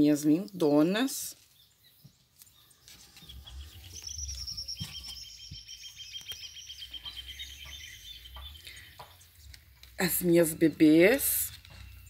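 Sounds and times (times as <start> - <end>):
songbird chirping and trilling: 0.0 - 12.0.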